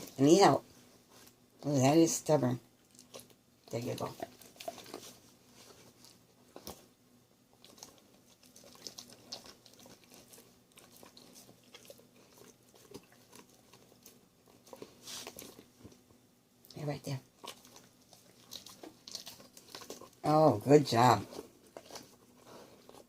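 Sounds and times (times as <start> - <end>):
dog chewing and crunching: 0.0 - 23.0.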